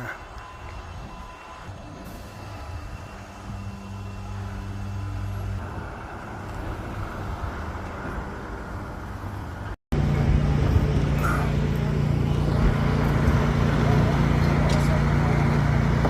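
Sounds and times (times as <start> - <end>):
construction site rumble: 0.0 - 16.0
loud steady drone: 0.0 - 16.0
machinery engine humming: 0.0 - 16.0.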